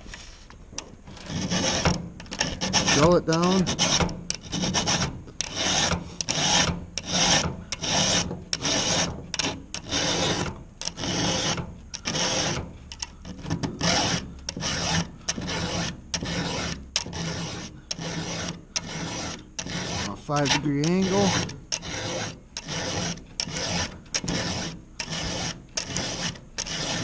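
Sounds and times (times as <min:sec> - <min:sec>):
file rasping on saw chain: 0:01.1 - 0:27.0.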